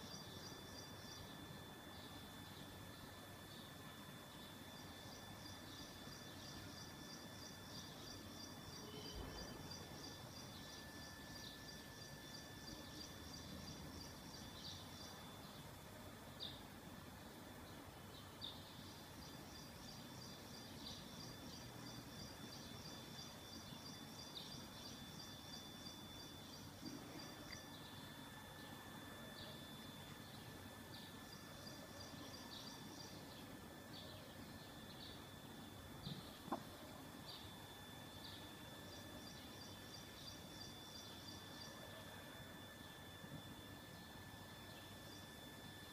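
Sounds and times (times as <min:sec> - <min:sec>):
insects trilling: 0:00.0 - 0:45.9
steady high whine: 0:00.0 - 0:45.9.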